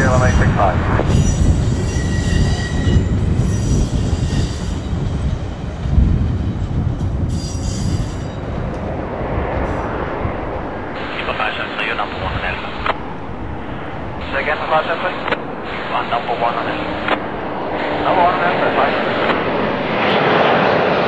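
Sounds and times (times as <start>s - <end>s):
high thin jet whine: 0.0s - 5.6s, 7.2s - 21.0s
jet engine rumble: 0.0s - 21.0s.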